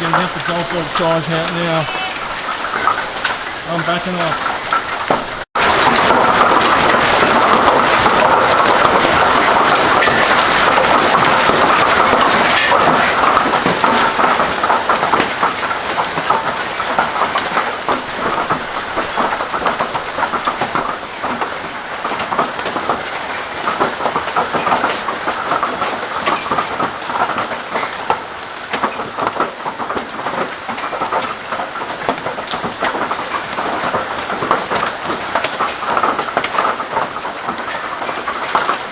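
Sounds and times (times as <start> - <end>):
hailstones rattling: 0.0 - 38.9
heavy rain: 0.0 - 38.9.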